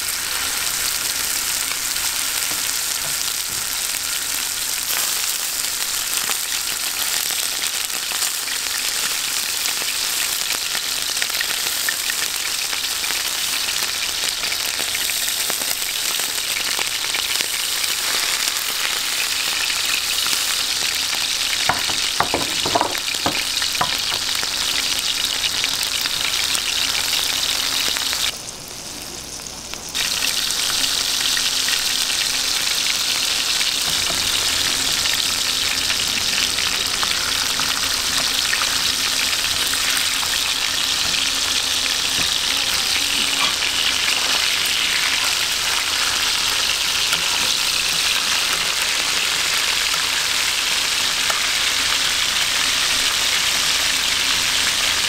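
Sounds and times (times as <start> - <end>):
steak sizzling in butter: 0.0 - 55.0.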